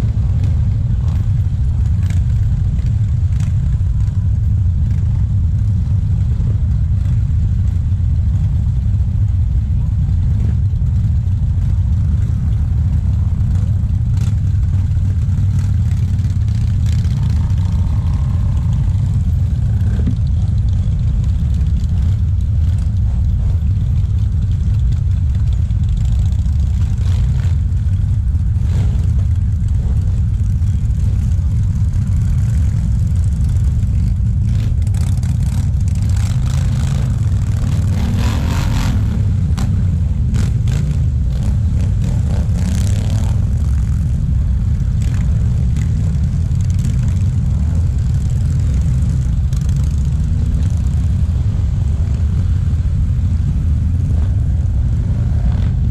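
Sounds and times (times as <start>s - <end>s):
motorcycle engines revving: 0.0s - 55.9s
motorcycles rumbling: 0.0s - 55.9s.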